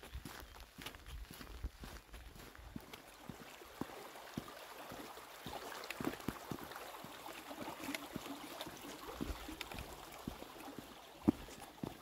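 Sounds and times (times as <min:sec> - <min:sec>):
footsteps on wet dirt: 0:00.0 - 0:12.0
stream running: 0:00.0 - 0:12.0.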